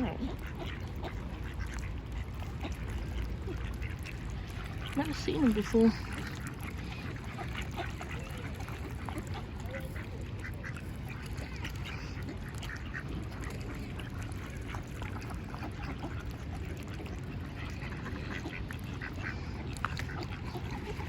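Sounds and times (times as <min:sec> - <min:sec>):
ducks calling: 0:00.0 - 0:21.0.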